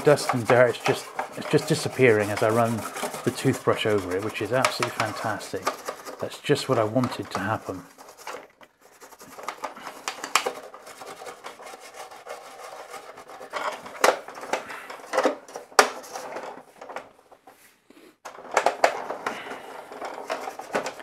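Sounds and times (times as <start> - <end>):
toothbrush scrubbing plastic: 0.0 - 16.6, 19.6 - 21.0.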